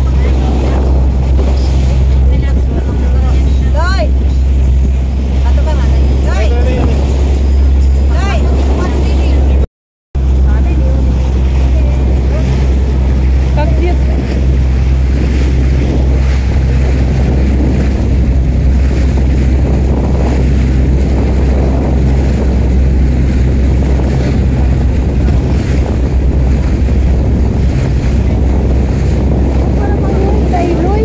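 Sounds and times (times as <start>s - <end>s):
wind buffeting microphone: 0.0s - 9.6s, 10.2s - 31.0s
boat engine running: 0.0s - 31.0s
water rushing past hull: 0.0s - 31.0s.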